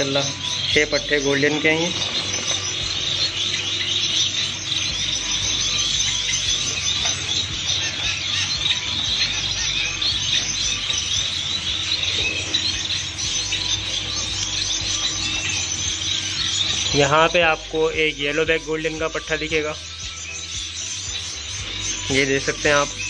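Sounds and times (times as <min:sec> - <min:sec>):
finches chirping: 0:00.0 - 0:23.0.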